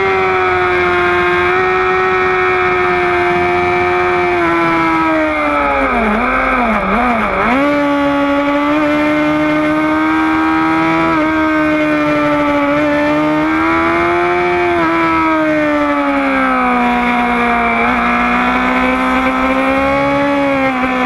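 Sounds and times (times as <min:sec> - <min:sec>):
motorcycle engine high revs: 0:00.0 - 0:21.0.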